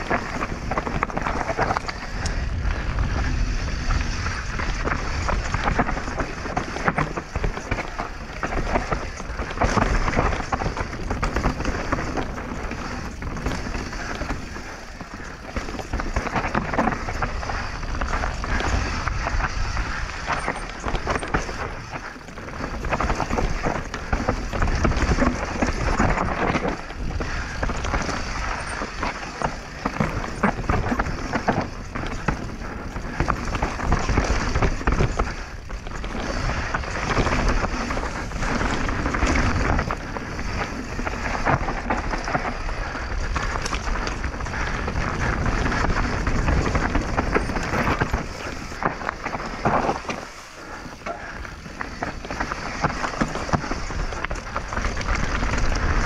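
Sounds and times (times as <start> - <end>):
bike rattling over bumps: 0.0 - 56.0
bike tyre roar: 0.0 - 56.0
wind on microphone: 0.0 - 56.0.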